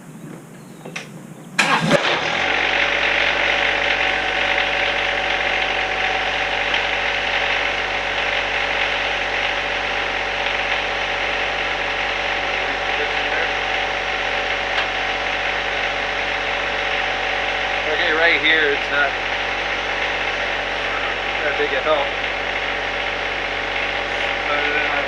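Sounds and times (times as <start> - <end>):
diesel tractor engine starting: 0.0 - 25.0.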